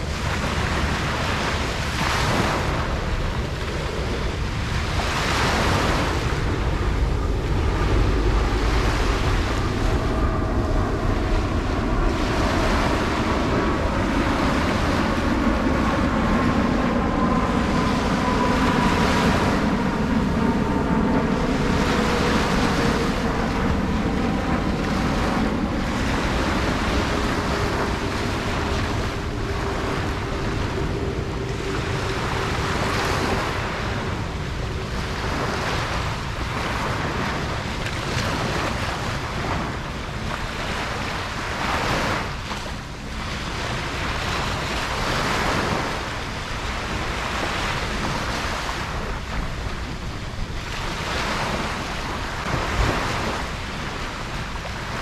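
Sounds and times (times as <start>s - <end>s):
waves breaking on a beach: 0.0s - 55.0s
wind on microphone: 0.0s - 55.0s.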